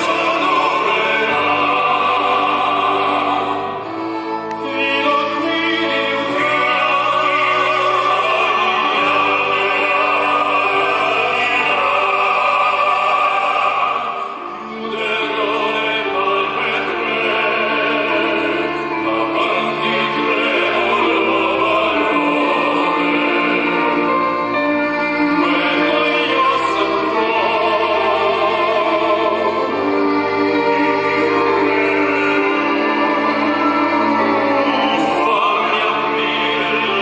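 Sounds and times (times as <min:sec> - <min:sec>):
instrumental accompaniment: 0:00.0 - 0:37.0
male vocal quartet singing operatically: 0:00.0 - 0:37.0.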